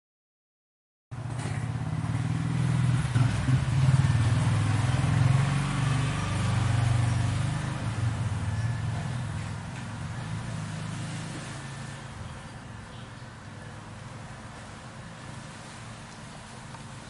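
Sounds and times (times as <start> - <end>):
engine deep rumble: 1.1 - 17.0.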